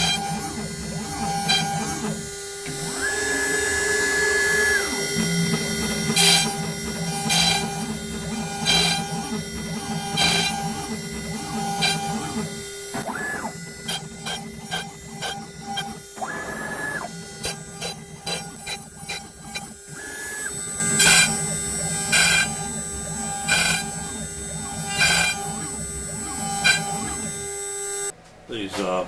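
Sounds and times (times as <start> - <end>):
drill bit boring holes: 0.0 - 28.1
router spindle running: 0.0 - 28.1
stepper motors whining: 0.0 - 28.1.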